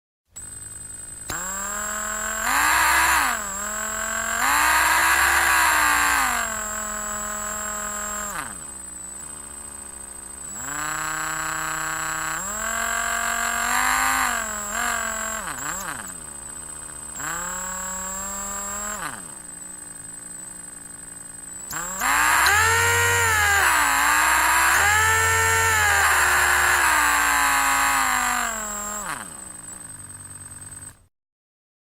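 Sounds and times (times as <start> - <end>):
electric drill motor whining: 0.4 - 31.0.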